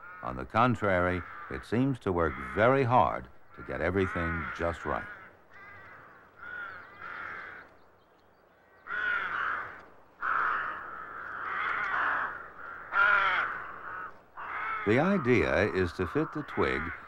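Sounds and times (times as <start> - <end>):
rook cawing: 0.0 - 17.0.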